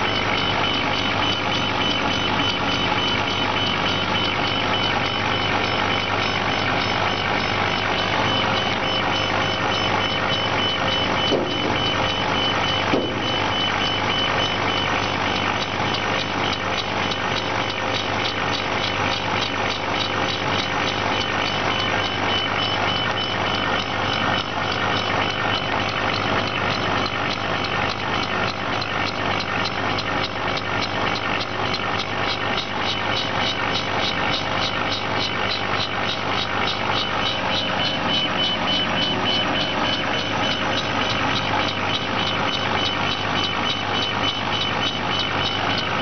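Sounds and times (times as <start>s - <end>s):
laser engraver whirring and whining: 0.0s - 46.0s
laser head pulsing: 0.0s - 46.0s
machine clicks: 0.1s - 46.0s.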